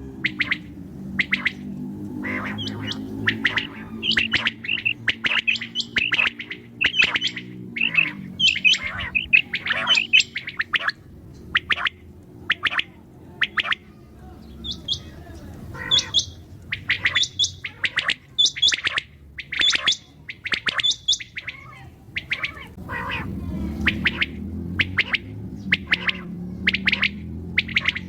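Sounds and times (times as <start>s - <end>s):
low background rumble: 0.0s - 28.0s
quail calling: 0.0s - 28.0s.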